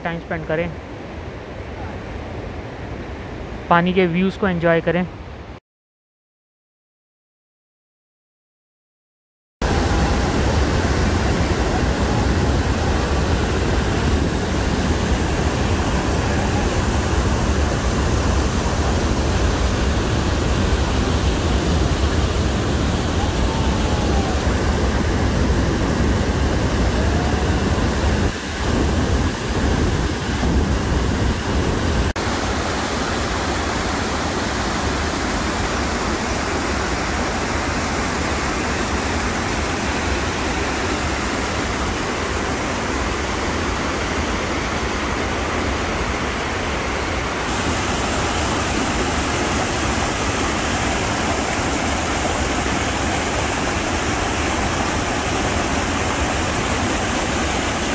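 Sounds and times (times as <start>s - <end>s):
river rapids pouring: 9.6s - 57.9s
waterfall rushing: 9.6s - 57.9s.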